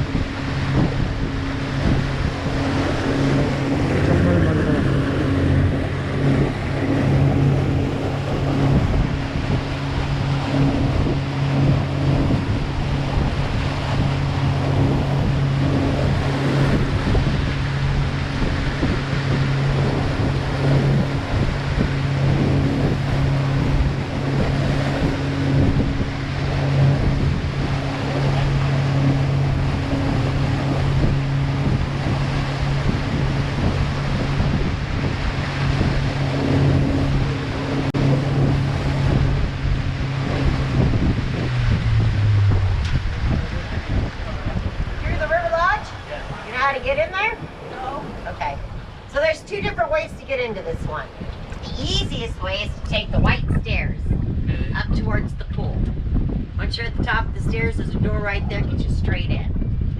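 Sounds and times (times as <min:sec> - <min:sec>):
rushing water: 0:00.0 - 0:53.4
boat engine humming: 0:00.0 - 0:59.9
wind noise on microphone: 0:00.0 - 0:59.9.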